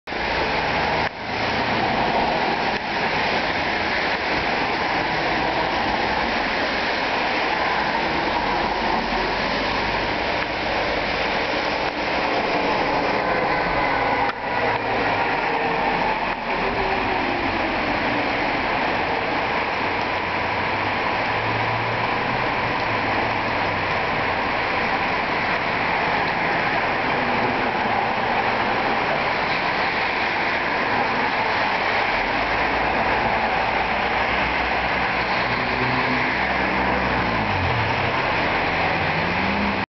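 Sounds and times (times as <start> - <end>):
rain: 0.0 - 39.9
bus engine: 0.1 - 39.9.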